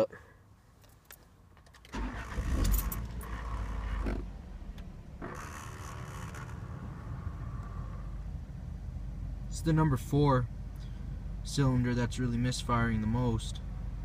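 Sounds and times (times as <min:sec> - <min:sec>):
car engine starting and idling: 0:00.8 - 0:14.0.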